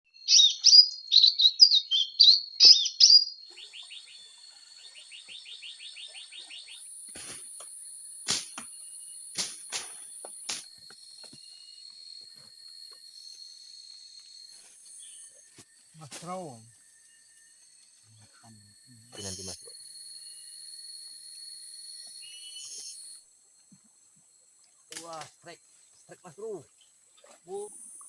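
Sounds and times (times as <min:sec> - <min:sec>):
bird chirping: 0:00.1 - 0:20.8, 0:21.6 - 0:24.6
insect ticking trill: 0:00.1 - 0:28.0.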